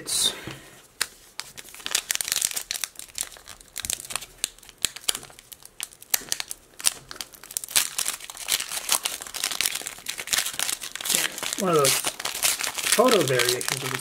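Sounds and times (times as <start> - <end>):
foil wrapper crinkling and tearing: 1.4 - 14.0.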